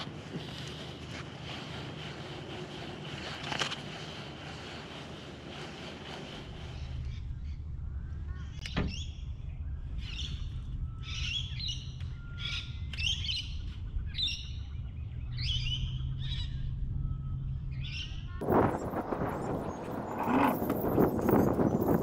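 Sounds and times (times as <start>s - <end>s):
birds chirping: 0.0s - 3.4s, 6.0s - 22.0s
low steady rumble: 0.0s - 22.0s.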